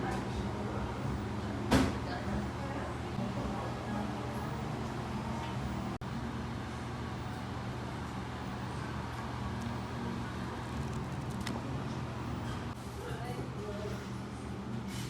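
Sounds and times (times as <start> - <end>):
low rumble of background noise: 0.0 - 14.9.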